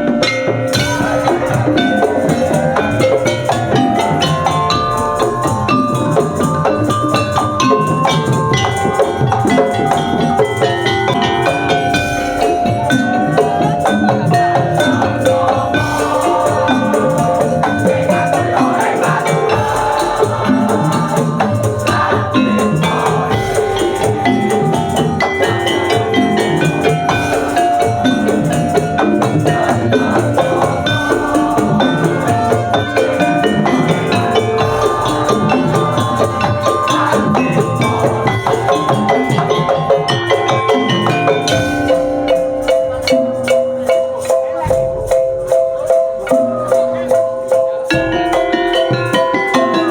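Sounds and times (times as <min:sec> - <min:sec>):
percussion ensemble playing: 0:00.0 - 0:49.9
sustained melodic tones: 0:00.0 - 0:49.9.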